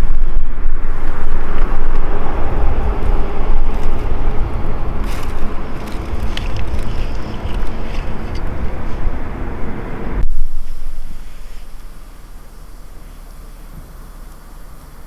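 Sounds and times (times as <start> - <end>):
wind buffeting microphone: 0.0 - 14.2
campfire crackling: 0.0 - 15.0.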